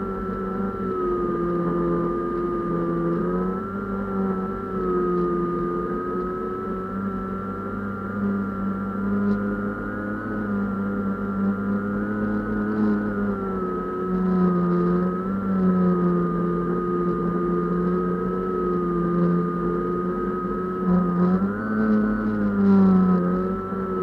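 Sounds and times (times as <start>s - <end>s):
drone motor and propeller: 0.0s - 24.0s.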